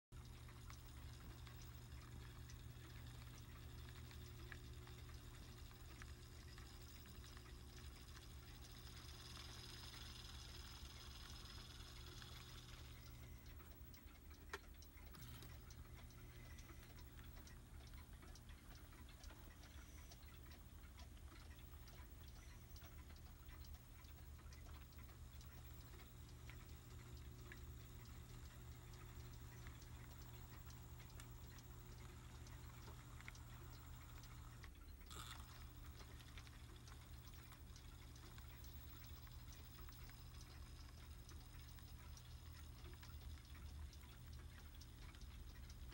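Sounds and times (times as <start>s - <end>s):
steady low hum: 0.2s - 45.9s.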